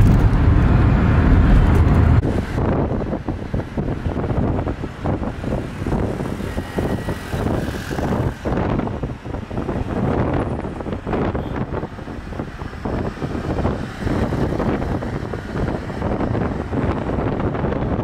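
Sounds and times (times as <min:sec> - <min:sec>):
car road noise in traffic: 0:00.0 - 0:18.0
wind rushing past: 0:00.0 - 0:18.0.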